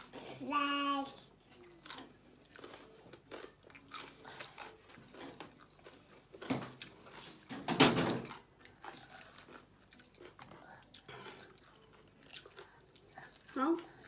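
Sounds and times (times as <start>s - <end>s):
close-up chewing: 1.5s - 7.5s, 8.2s - 14.0s.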